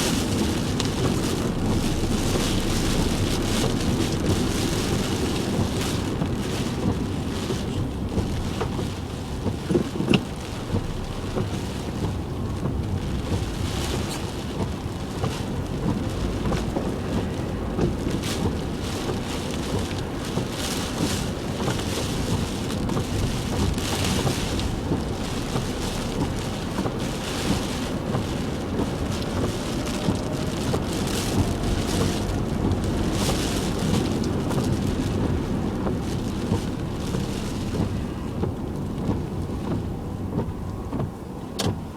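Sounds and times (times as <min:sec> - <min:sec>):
rain and spray hissing: 0:00.0 - 0:41.9
road and engine rumble: 0:00.0 - 0:41.9.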